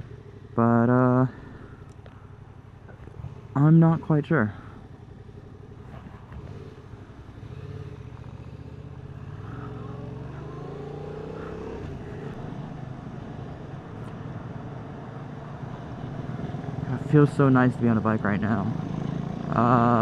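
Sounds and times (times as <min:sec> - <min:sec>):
motorcycle engine while riding: 0:00.0 - 0:20.0.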